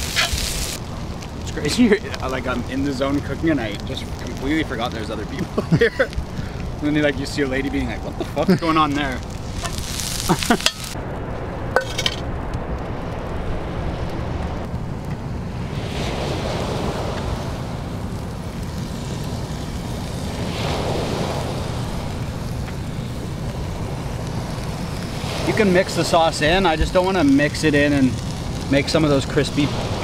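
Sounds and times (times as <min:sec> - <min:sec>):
rice sizzling in a skillet: 0:00.0 - 0:11.0, 0:15.7 - 0:30.0.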